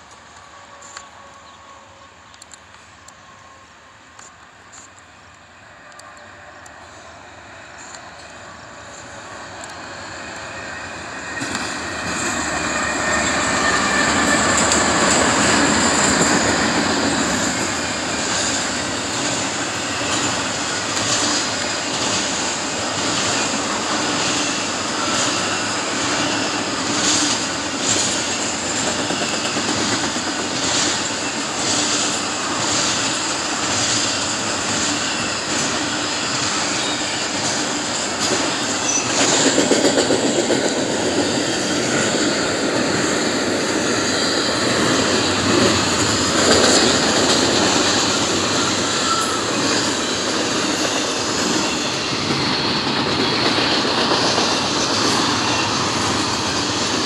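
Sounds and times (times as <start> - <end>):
diesel locomotives passing: 0.0 - 57.0
train wheel clacks: 7.8 - 57.0.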